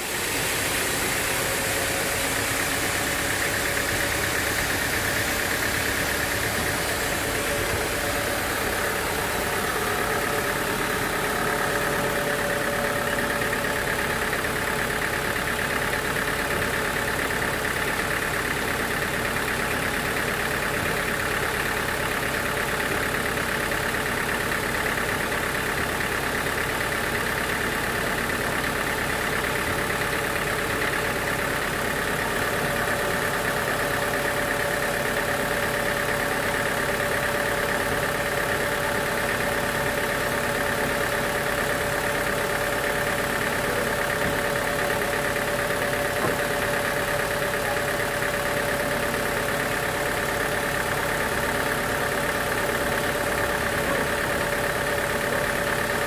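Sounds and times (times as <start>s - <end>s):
sawmill machinery drone and whine: 0.0s - 56.0s.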